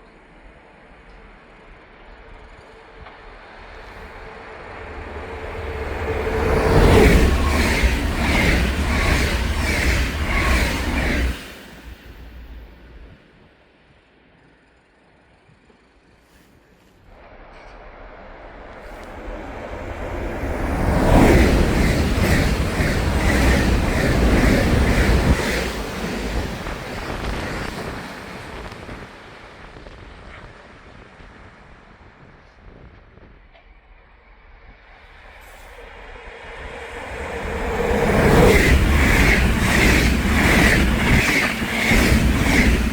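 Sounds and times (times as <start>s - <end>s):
train passing at speed: 0.0s - 42.9s.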